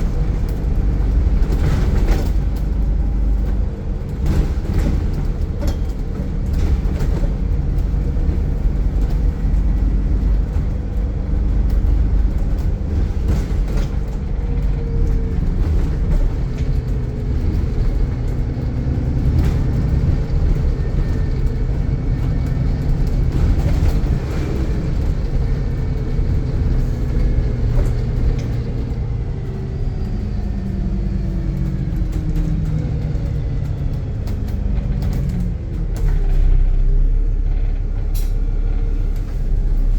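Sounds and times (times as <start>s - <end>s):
diesel bus engine accelerating: 0.0s - 39.9s.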